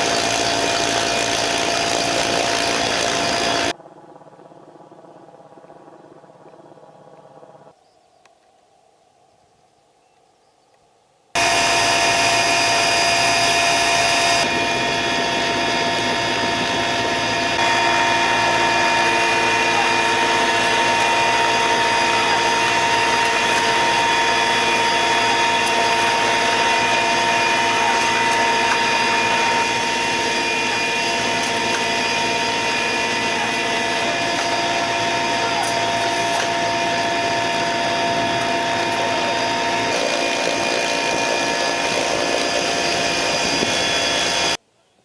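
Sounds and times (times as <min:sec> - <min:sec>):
helicopter turbine whine: 0:00.0 - 0:07.8, 0:11.4 - 0:44.6.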